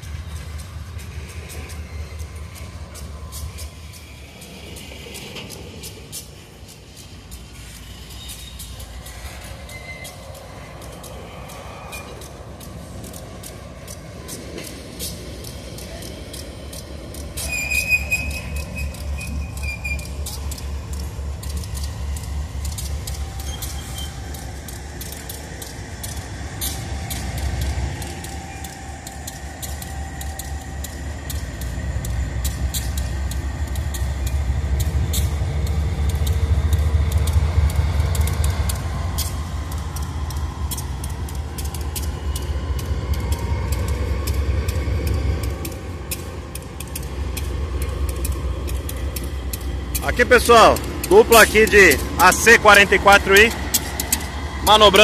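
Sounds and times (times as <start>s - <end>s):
diesel locomotive engine rumble: 0.0s - 55.0s
wheels clicking on rails: 0.0s - 55.0s.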